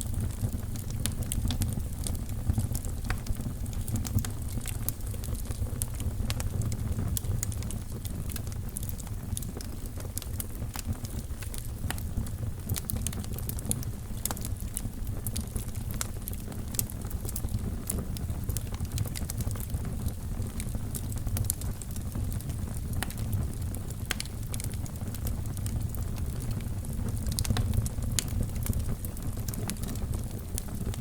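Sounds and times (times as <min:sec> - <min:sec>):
fire crackling and popping: 0:00.0 - 0:31.0
wood fire flames rumbling: 0:00.0 - 0:31.0.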